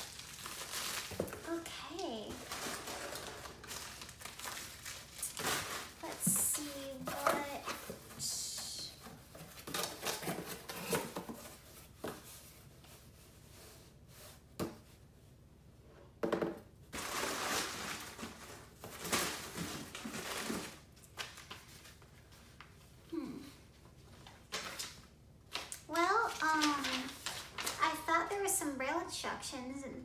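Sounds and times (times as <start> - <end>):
plastic and paper rustling: 0.0 - 14.5, 16.9 - 23.0, 23.9 - 28.5.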